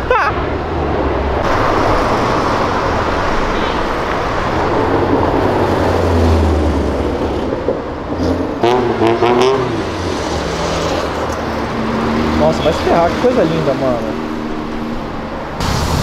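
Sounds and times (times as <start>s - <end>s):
sports cars passing: 0.0s - 15.9s.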